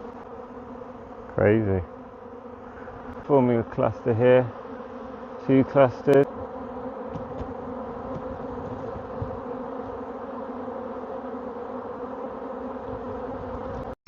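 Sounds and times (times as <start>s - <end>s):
bee swarm buzzing: 0.0s - 14.0s.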